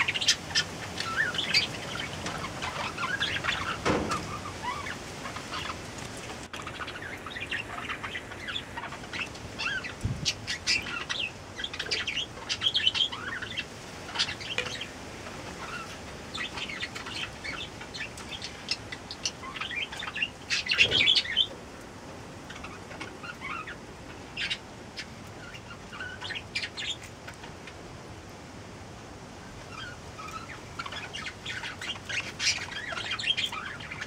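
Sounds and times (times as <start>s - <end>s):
small birds chirping: 0.0s - 28.2s, 29.4s - 34.0s.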